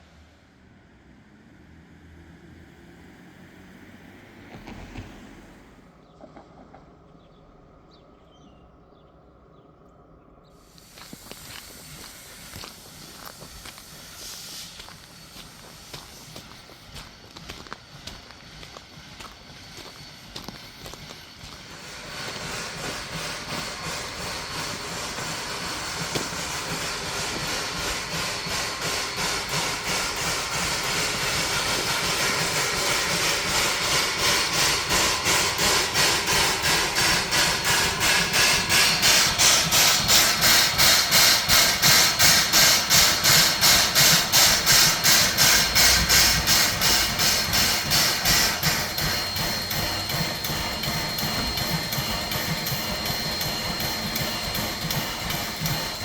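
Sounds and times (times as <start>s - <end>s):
steam locomotive chuffing: 10.6s - 56.0s.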